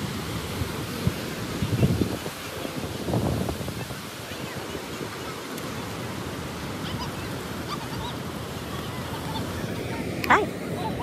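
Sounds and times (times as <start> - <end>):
ocean surf rushing on beach: 0.0 - 11.0.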